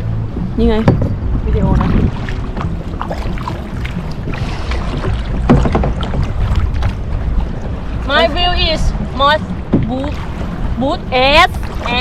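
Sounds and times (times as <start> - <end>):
wind rumble on microphone: 0.0 - 12.0
paddles splashing in water: 0.8 - 12.0.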